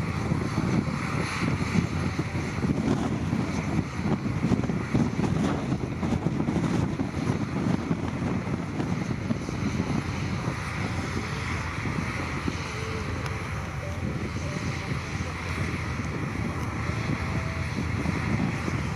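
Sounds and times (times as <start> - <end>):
heavy diesel engine rumbling: 0.0 - 18.9.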